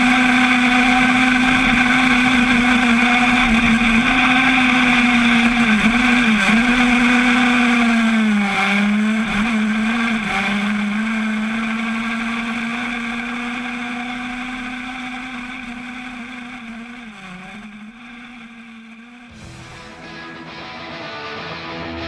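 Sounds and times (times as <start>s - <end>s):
two-stroke kart engine at high revs: 0.0s - 19.6s.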